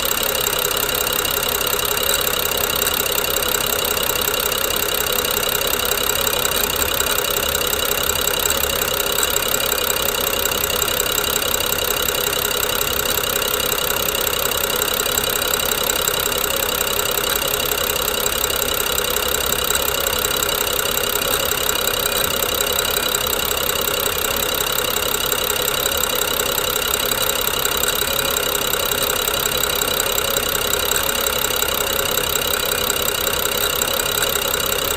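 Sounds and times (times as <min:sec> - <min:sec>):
car engine idling roughly: 0:00.0 - 0:34.9
fast clicking and grinding: 0:00.0 - 0:34.9.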